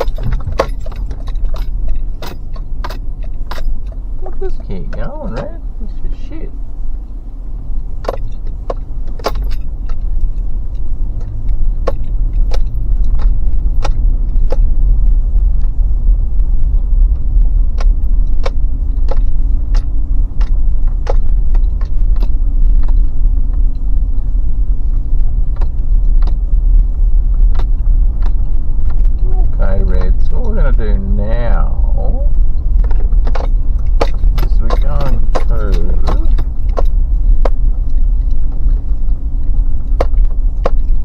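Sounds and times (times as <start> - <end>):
gravel clicks and rattles: 0.0 - 5.6, 7.8 - 41.0
car rumbling on gravel road: 0.0 - 41.0.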